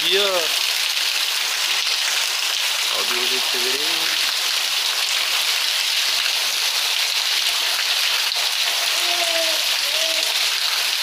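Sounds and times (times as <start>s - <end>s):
heavy rain: 0.0s - 11.0s
water dripping off roof: 0.0s - 11.0s
water pouring from drainpipe: 0.0s - 11.0s.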